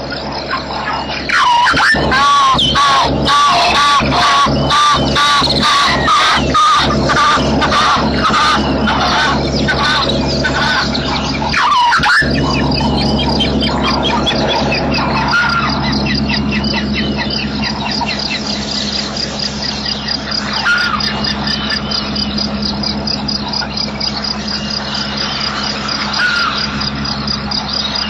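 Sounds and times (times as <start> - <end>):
steady low hum: 0.0 - 28.0
wild birds calling: 0.0 - 28.0.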